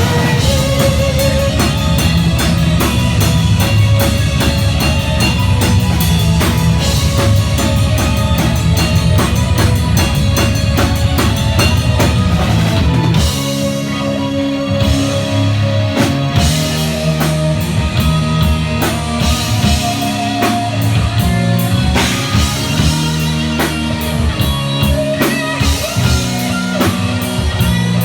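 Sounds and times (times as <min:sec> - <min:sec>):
distorted guitar and bass: 0:00.0 - 0:28.0
drum kit pounding: 0:00.0 - 0:28.0.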